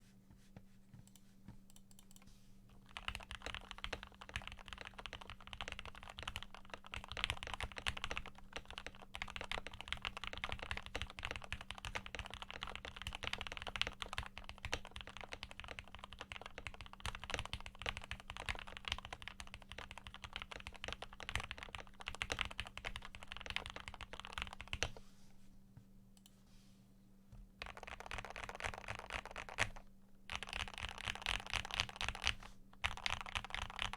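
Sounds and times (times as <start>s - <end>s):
typing on mechanical keyboard: 2.9s - 24.9s, 27.6s - 33.9s.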